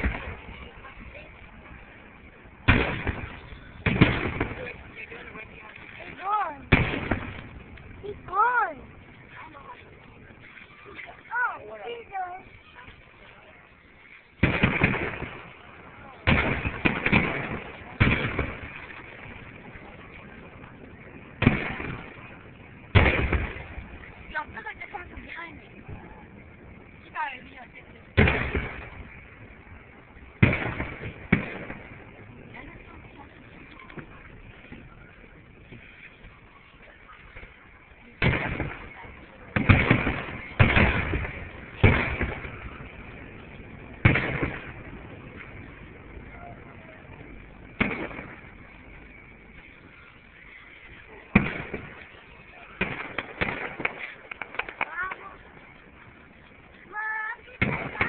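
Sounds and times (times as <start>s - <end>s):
firework shell bursting: 0.0s - 58.0s.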